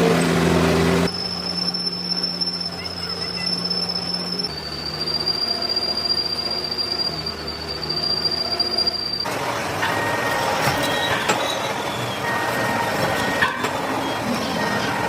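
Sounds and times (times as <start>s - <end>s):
harsh metallic squeal: 1.1s - 15.0s.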